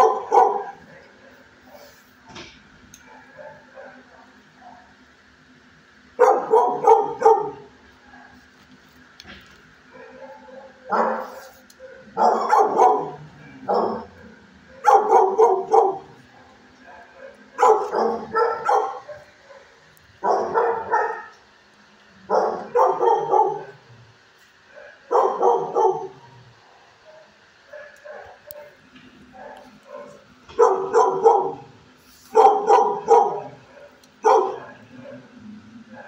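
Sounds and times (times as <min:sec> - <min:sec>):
dog barking: 0:00.0 - 0:02.0, 0:03.0 - 0:05.0, 0:06.2 - 0:08.4, 0:09.9 - 0:21.4, 0:22.3 - 0:23.9, 0:24.7 - 0:36.0.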